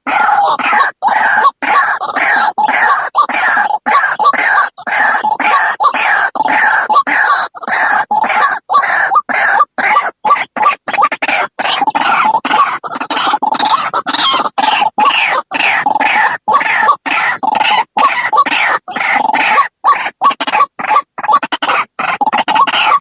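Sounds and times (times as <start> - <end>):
waterhen harsh croaking calls: 0.0 - 23.0.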